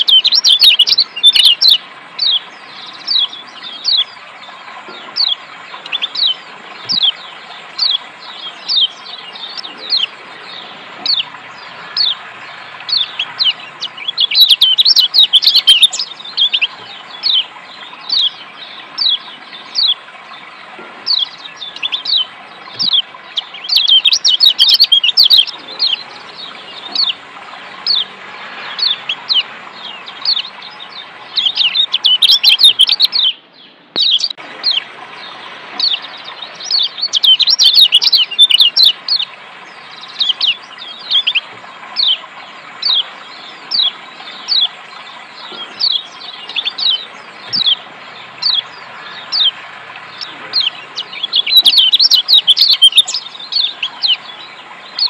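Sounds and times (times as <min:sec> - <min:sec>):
bird chirping and chattering: 0:00.0 - 0:33.4, 0:34.0 - 0:55.0
running water: 0:00.0 - 0:55.0.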